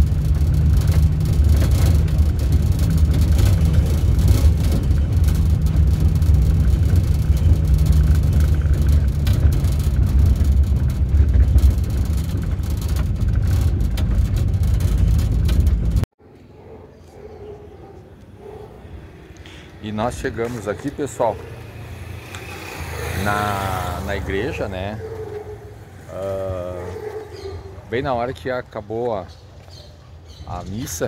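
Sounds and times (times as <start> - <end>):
van engine and road rumble: 0.0 - 31.0.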